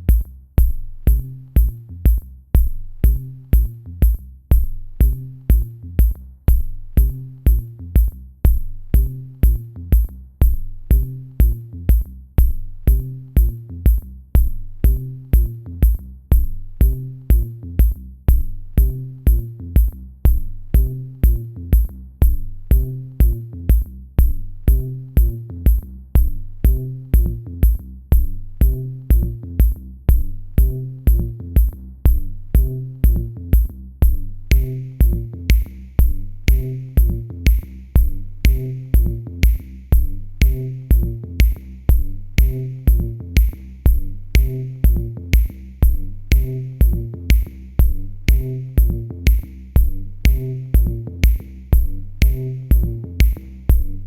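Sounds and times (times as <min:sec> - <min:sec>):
electronic music with drum-machine beat: 0:00.0 - 0:54.0.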